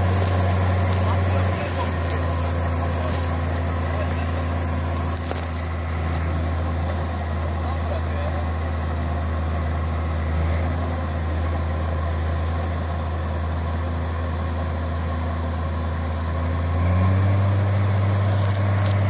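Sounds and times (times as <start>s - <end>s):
combine harvester diesel engine: 0.0s - 19.0s
tractor engine running: 0.0s - 19.0s.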